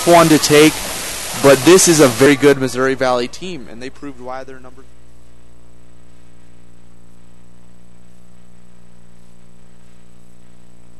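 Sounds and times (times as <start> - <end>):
buzzy electrical hum: 0.0 - 10.9.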